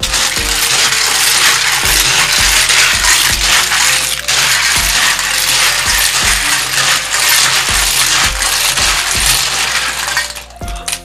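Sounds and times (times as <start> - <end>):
snail shells clinking in water: 0.0 - 11.0.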